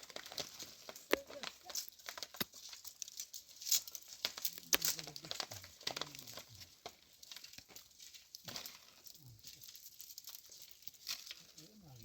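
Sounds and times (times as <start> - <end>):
dry plant material crinkling: 0.0 - 12.0.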